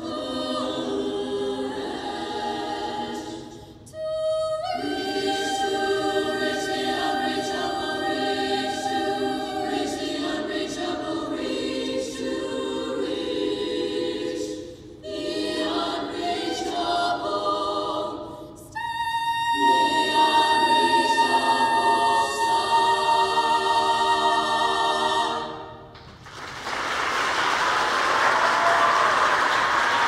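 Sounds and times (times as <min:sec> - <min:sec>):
choir singing: 0:00.0 - 0:25.9.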